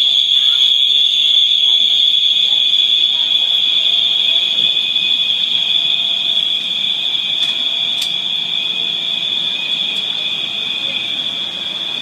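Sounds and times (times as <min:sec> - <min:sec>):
fire alarm high-pitched tone: 0:00.0 - 0:12.0.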